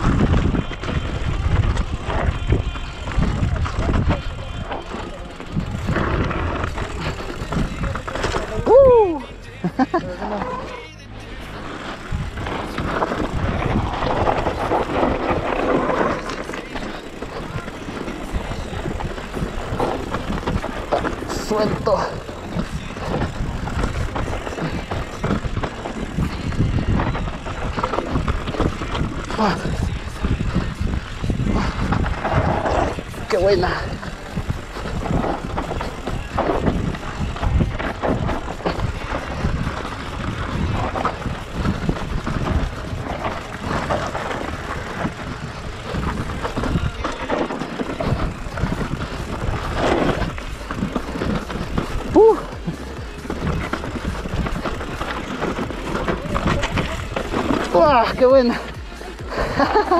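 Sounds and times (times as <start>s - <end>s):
wind rumble on microphone: 0.0s - 9.3s, 11.5s - 59.9s
bike clattering over bumps: 0.0s - 59.9s
tyres rolling on loose ground: 0.0s - 59.9s.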